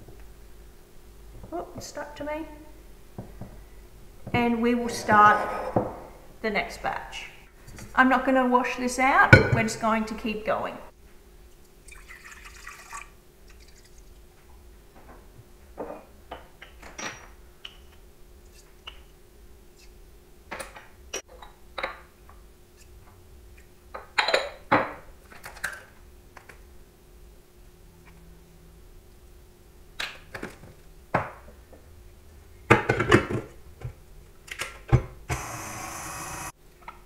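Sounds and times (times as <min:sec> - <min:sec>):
faint steady hum: 0:00.0 - 0:34.6.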